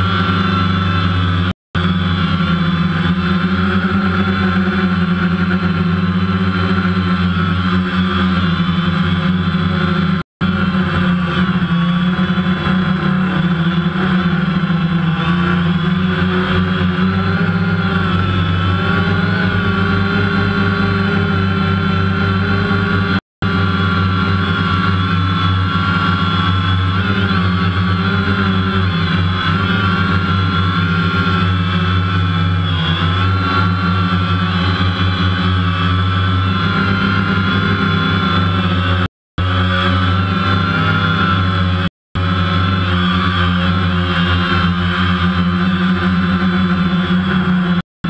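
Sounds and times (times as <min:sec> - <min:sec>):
drone propellers buzzing: 0:00.0 - 0:47.8.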